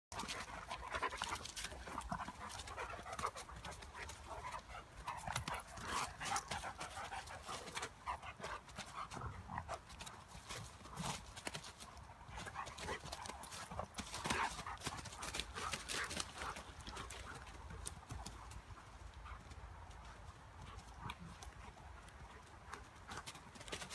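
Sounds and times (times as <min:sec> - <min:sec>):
dog panting: 0:00.1 - 0:23.9.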